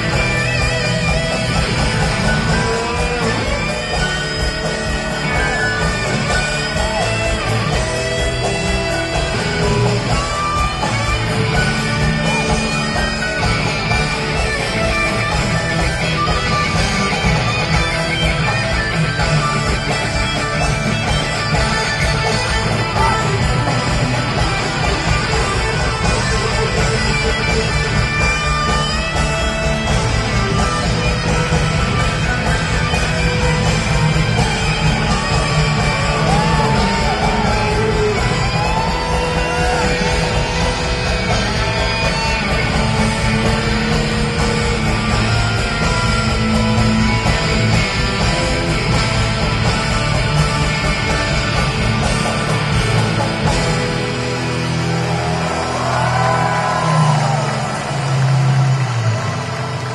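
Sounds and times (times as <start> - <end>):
crowd yelling: 0.0 - 59.9
electric guitar: 0.0 - 59.9
rock band playing: 0.0 - 59.9.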